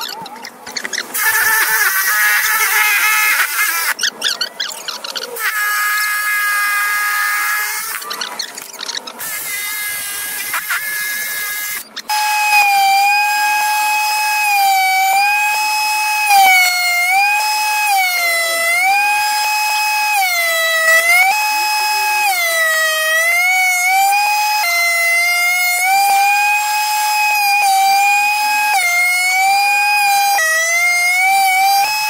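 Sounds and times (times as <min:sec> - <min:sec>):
thickness planer whining: 0:00.0 - 0:32.0.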